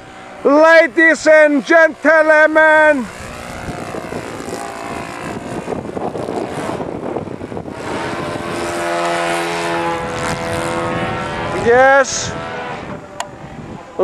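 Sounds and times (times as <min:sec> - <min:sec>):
model plane engine buzzing: 0:00.0 - 0:14.0.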